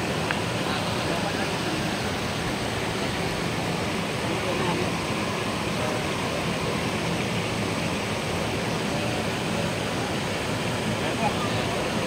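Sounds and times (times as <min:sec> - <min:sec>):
water rushing and bubbling over rocks: 0:00.0 - 0:12.0.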